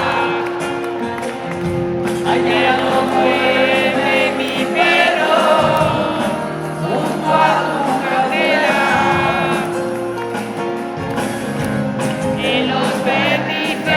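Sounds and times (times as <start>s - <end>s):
voices singing together: 0.0s - 10.6s, 11.2s - 13.9s
live pop-rock band: 0.0s - 13.9s.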